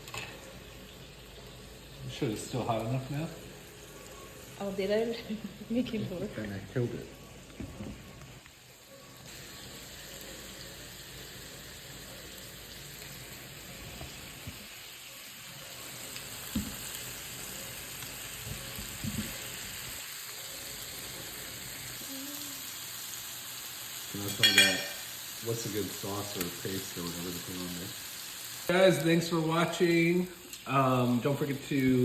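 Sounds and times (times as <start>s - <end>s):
pork sizzling in a pan: 0.0s - 32.0s.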